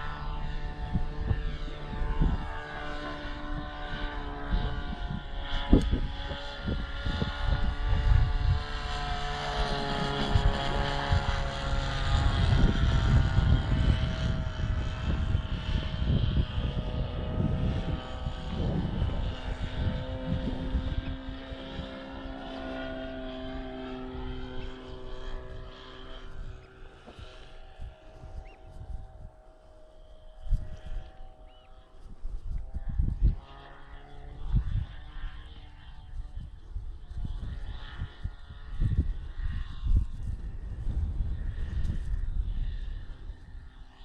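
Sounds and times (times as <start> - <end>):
model plane engine and propeller: 0.0 - 44.0
wind buffeting microphone: 0.0 - 44.0.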